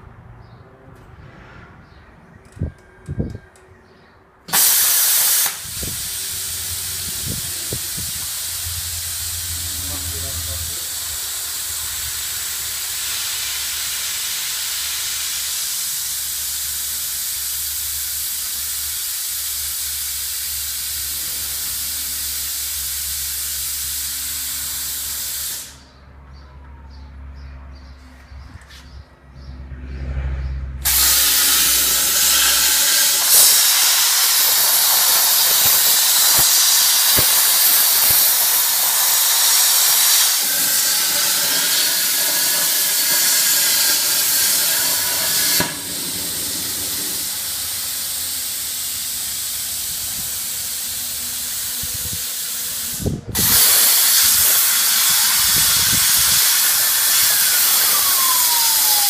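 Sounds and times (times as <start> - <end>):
plasma cutter hissing: 4.5 - 25.9, 30.8 - 59.0.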